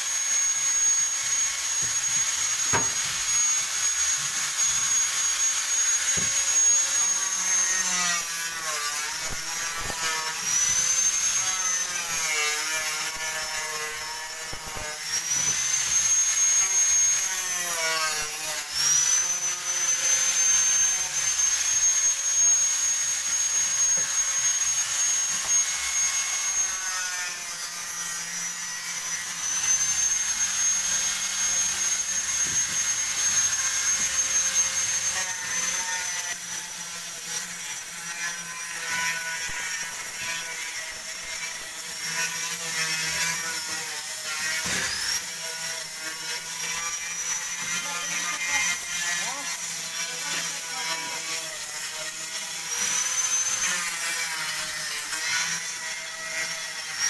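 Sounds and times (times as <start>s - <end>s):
angle grinder grinding: 0.0s - 57.0s
power tool whining: 0.0s - 57.0s.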